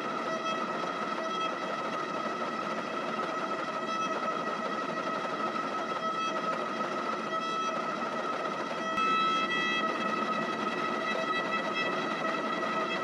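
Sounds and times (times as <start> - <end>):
hydraulic press pump whine: 0.0 - 13.0.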